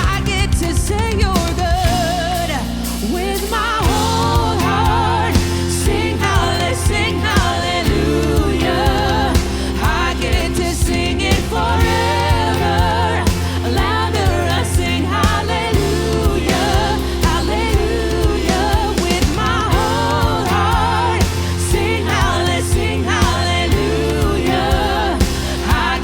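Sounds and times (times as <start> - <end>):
steady drum beat: 0.0 - 26.0
sustained bass chords: 0.0 - 26.0
person singing held vocal lines: 1.9 - 26.0.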